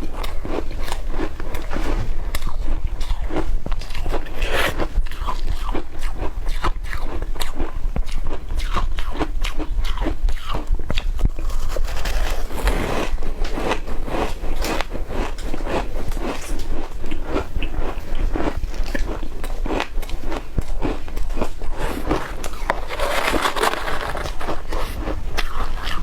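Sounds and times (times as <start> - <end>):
chewing crunchy ice: 0.0 - 26.0.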